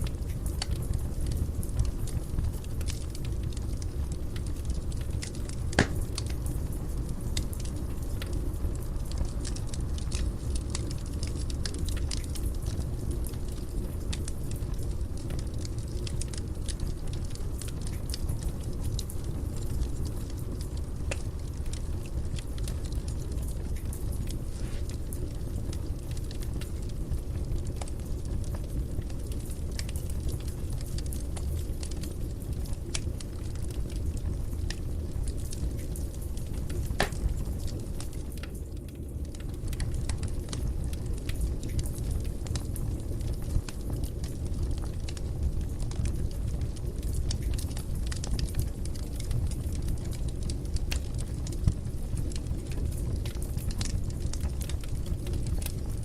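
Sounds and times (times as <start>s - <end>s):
fire crackling in fireplace: 0.0s - 56.0s.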